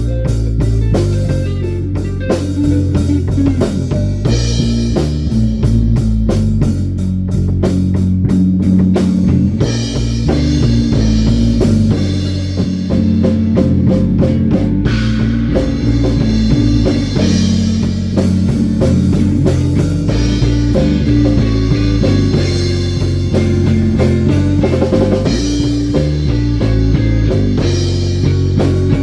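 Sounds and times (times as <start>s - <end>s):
bass guitar: 0.0s - 29.0s
drum kit beat: 0.0s - 29.0s
guitar: 0.0s - 29.0s.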